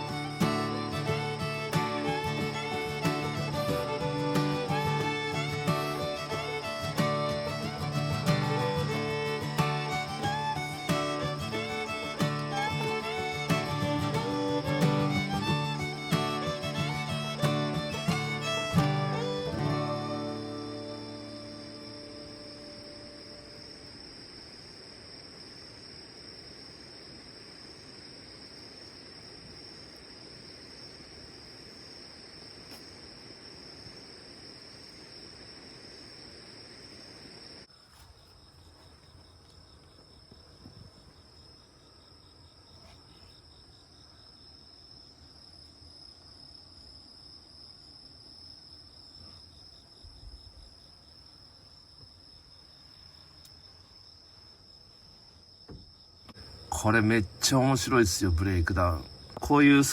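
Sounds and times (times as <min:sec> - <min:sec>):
background hiss: 0:00.0 - 0:59.9
crickets chirring: 0:00.0 - 0:59.9.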